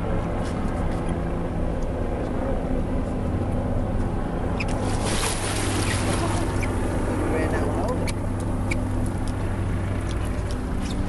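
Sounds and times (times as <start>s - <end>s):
boat engine running: 0.2s - 11.0s.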